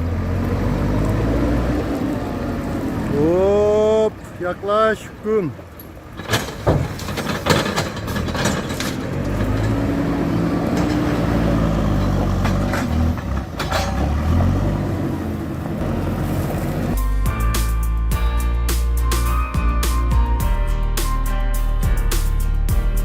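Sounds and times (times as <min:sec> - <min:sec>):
diesel engine under load: 0:00.0 - 0:19.3.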